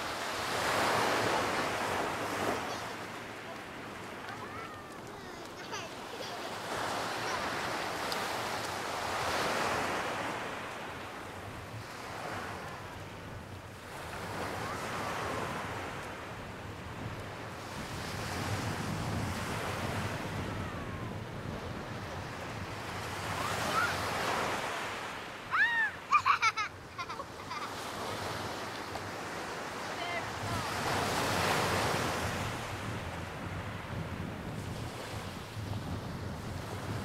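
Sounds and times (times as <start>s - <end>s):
small waves breaking on shore: 0.0s - 37.0s.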